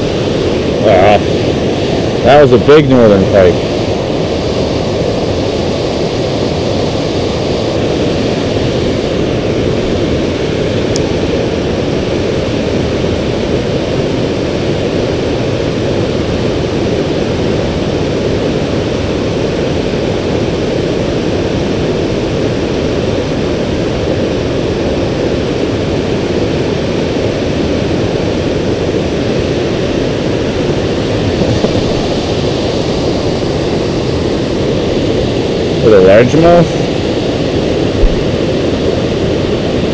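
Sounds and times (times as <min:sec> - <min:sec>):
water rushing over spillway: 0:00.0 - 0:39.9.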